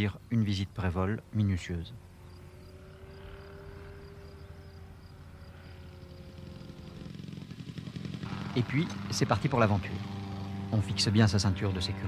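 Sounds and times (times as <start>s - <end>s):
small aircraft engine drone: 0.0s - 12.0s.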